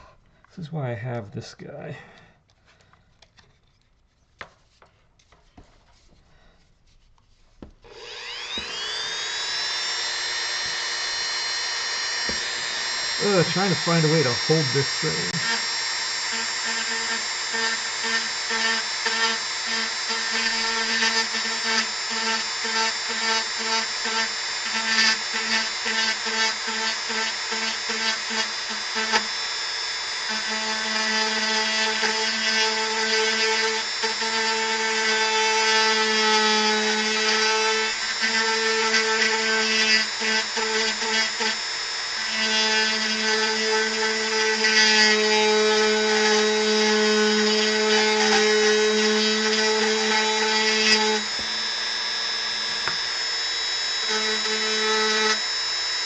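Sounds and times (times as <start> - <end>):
rotary tool carving wood: 7.6 - 56.0.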